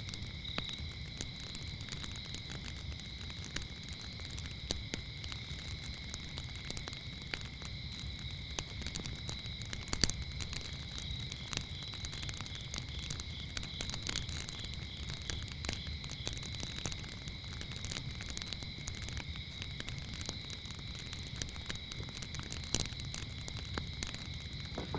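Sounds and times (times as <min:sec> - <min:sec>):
crickets chirring: 0:00.0 - 0:24.9
wood fire crackling and popping: 0:00.0 - 0:24.9.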